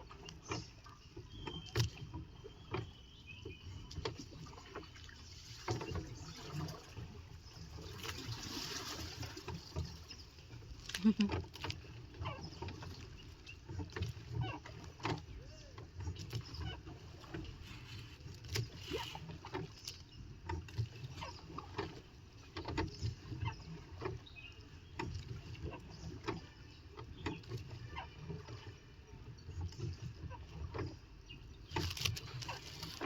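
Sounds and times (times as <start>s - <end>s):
boat knocks and splashes: 0.0s - 33.0s.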